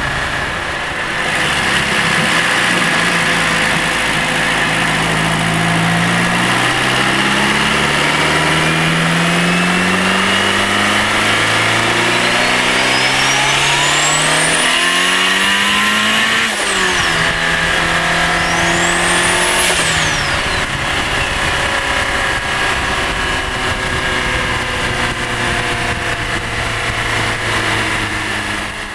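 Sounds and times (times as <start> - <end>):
turbo whine: 0.0 - 28.8
car engine revving: 0.0 - 28.9.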